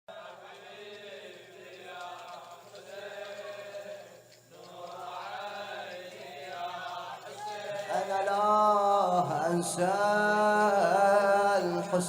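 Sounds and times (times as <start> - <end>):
men chanting a mourning lament: 0.1 - 12.0.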